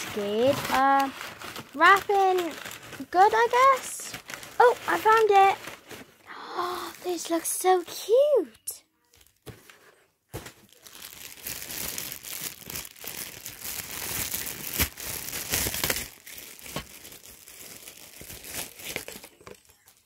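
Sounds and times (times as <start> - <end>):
plastic bag crinkling: 0.0 - 8.1, 10.4 - 20.0.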